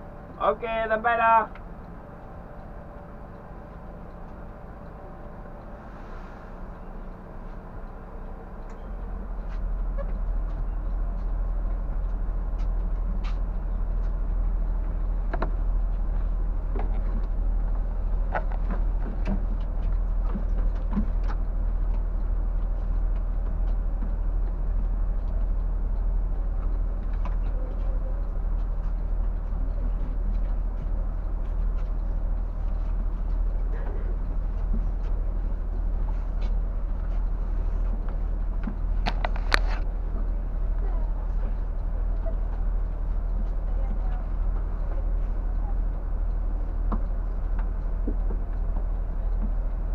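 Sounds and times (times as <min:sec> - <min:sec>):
diesel bus engine idling: 0:00.0 - 0:49.9.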